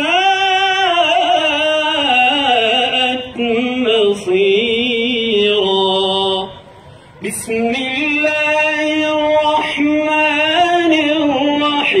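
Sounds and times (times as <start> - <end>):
man chanting melodically: 0.0 - 6.6, 7.2 - 12.0.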